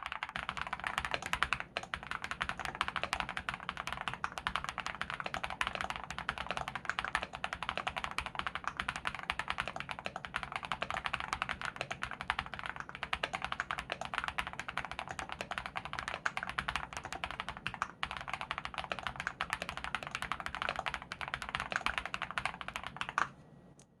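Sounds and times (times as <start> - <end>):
mechanical keyboard typing: 0.0 - 23.4.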